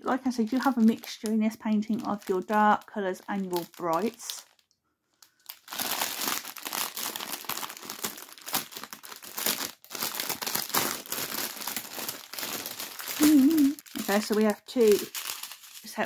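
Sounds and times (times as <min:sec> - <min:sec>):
plastic packaging crinkling: 0:00.2 - 0:16.0.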